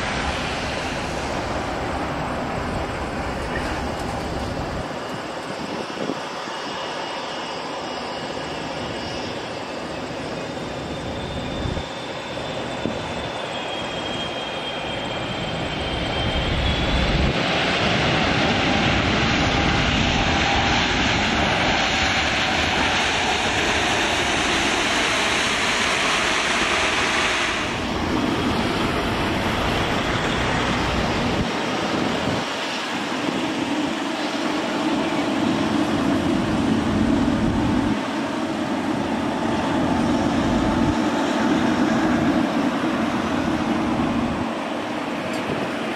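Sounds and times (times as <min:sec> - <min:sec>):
jet engine whine: 0:00.0 - 0:45.9
jet rushing roar: 0:00.0 - 0:45.9
low jet drone: 0:00.0 - 0:45.9.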